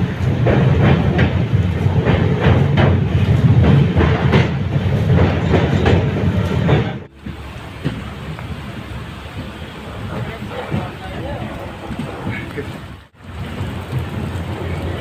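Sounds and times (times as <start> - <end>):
passenger train rumbling: 0.0 - 15.0
wheels clattering over rail joints: 0.0 - 15.0.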